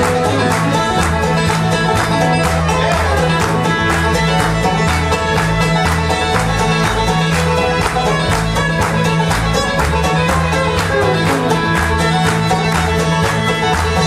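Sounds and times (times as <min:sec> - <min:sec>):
fiddle: 0:00.0 - 0:14.0
picked banjo: 0:00.0 - 0:14.0
upright bass: 0:00.0 - 0:14.0.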